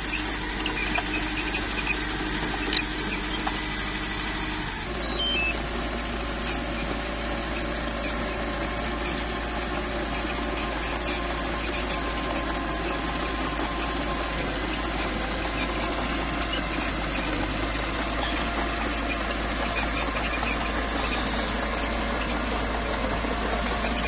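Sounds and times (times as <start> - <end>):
bulldozer engine running: 0.0 - 24.0.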